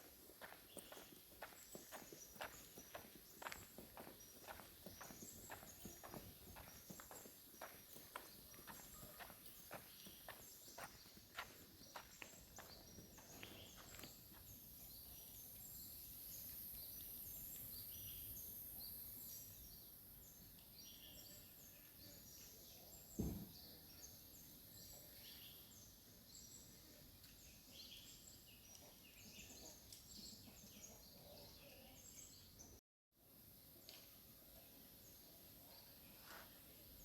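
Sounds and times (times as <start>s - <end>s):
faint birds chirping: 0.0s - 32.8s, 33.6s - 37.0s.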